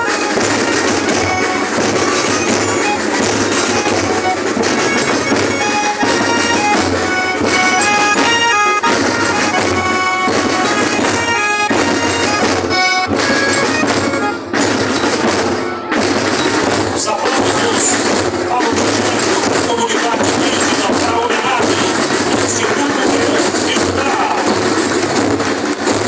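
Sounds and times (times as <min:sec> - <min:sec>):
shrill wind instrument melody: 0:00.0 - 0:24.4
drums beating steady rhythm: 0:00.0 - 0:26.0.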